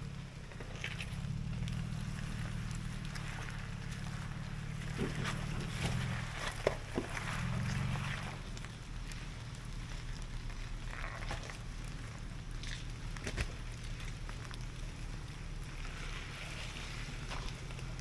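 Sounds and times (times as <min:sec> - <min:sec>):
off-road vehicle engine droning: 0:00.0 - 0:18.0
knocks clicks and crunches: 0:00.3 - 0:15.2.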